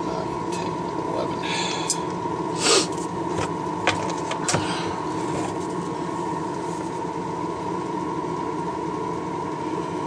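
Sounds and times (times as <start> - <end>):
exhaust fan humming: 0.0 - 10.0.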